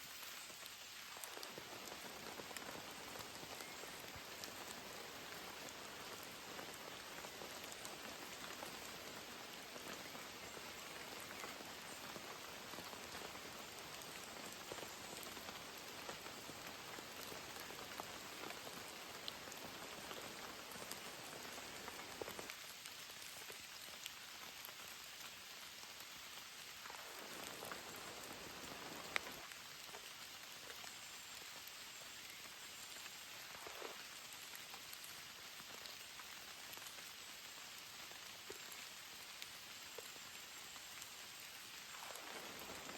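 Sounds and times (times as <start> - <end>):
rain falling: 0.0 - 42.9
raindrops ticking: 0.1 - 42.9.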